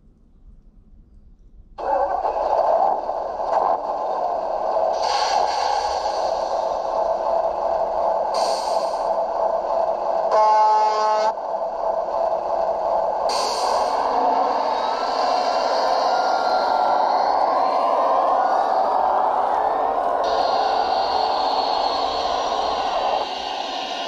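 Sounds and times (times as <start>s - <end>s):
simulated diesel engine sound: 1.8s - 24.0s.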